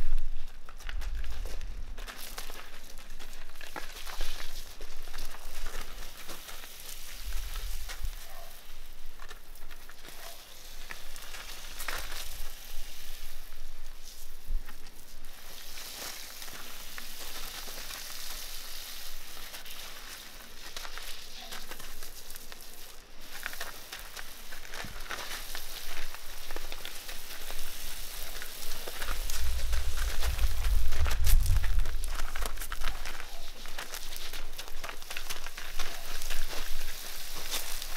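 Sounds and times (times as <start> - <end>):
hooves and boots on gravel: 0.0 - 37.9
hose spray hissing onto gravel: 3.6 - 37.9.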